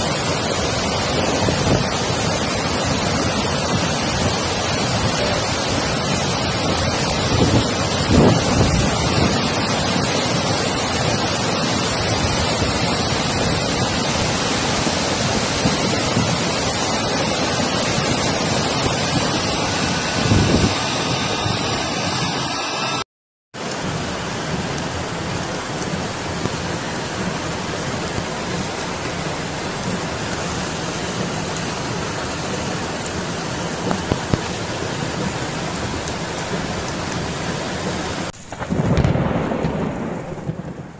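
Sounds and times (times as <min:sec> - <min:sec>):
floodwater rushing: 0:00.0 - 0:23.0, 0:23.6 - 0:40.4.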